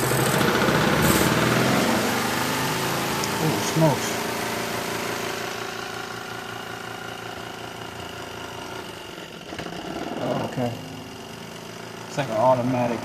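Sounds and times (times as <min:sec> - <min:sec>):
spin dryer motor hum: 0:00.0 - 0:13.0.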